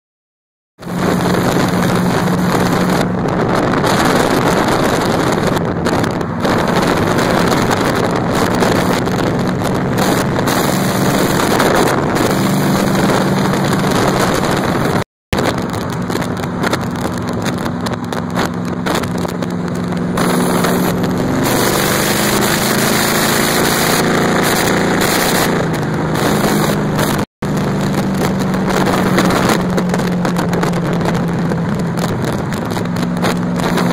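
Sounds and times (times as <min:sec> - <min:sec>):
truck engine droning: 0:00.8 - 0:33.9
wind and road noise: 0:00.8 - 0:33.9.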